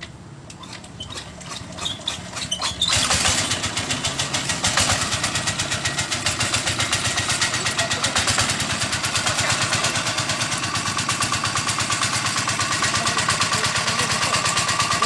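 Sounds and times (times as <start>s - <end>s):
diesel engine pulsing: 0.1s - 15.0s.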